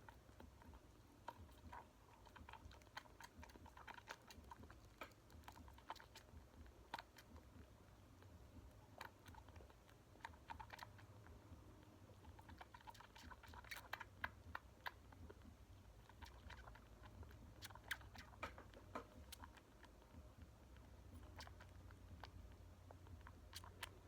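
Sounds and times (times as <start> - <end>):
kitten suckling from bottle: 0.0 - 24.0.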